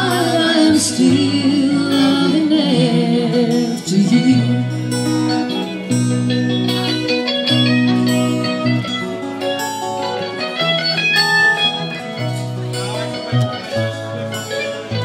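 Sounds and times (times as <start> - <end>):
electric guitar: 0.0 - 15.0
mandolin: 0.0 - 15.0
strummed acoustic guitar: 0.0 - 15.0.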